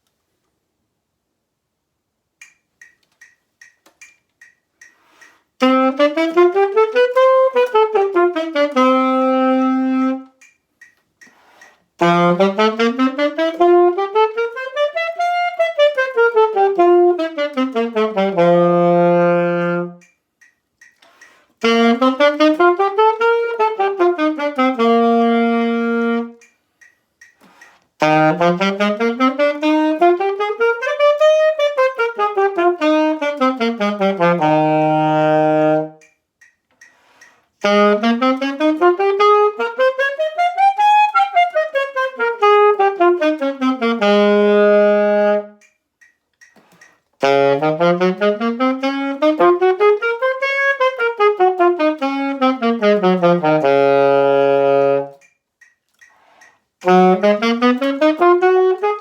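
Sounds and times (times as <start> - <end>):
metronome ticking: 2.4 - 33.3, 34.8 - 42.8, 44.4 - 51.7, 54.4 - 59.0
saxophone playing scales: 5.2 - 10.5, 11.2 - 20.2, 20.8 - 26.6, 27.5 - 36.2, 36.8 - 45.8, 46.7 - 55.3, 56.4 - 59.0.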